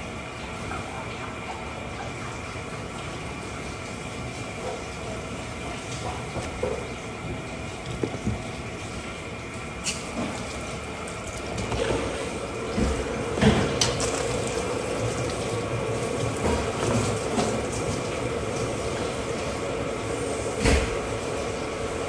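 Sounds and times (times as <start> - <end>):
water running from tap: 0.0 - 22.0.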